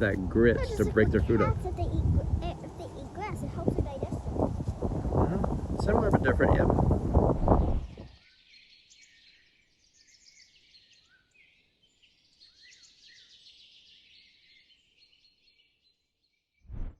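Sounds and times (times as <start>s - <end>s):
small birds chirping: 0.0s - 16.6s.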